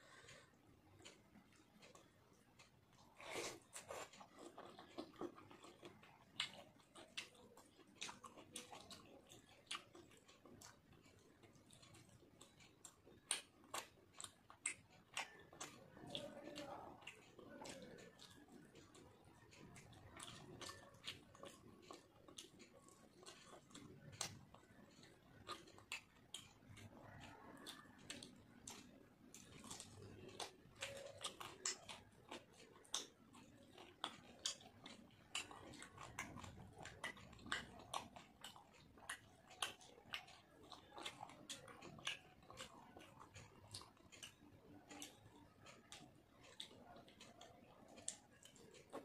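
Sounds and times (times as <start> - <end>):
person chewing with mouth smacks: 0.0 - 49.0.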